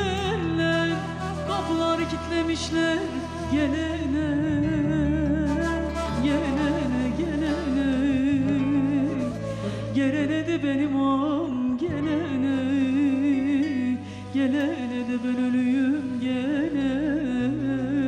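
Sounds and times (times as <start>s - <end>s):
woman singing folk song: 0.0s - 18.0s.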